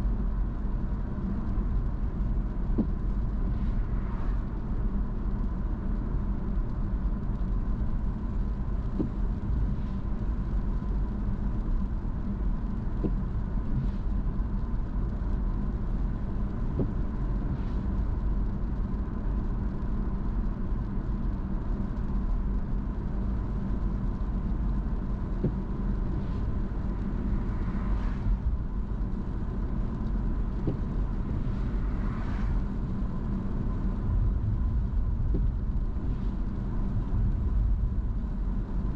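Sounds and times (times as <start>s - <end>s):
car road and engine rumble: 0.0s - 38.9s
faint steady whine: 0.0s - 38.9s.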